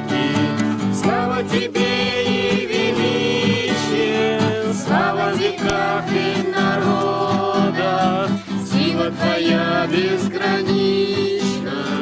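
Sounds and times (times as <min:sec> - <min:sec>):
acoustic guitar: 0:00.0 - 0:12.0
group of voices singing: 0:00.0 - 0:12.0.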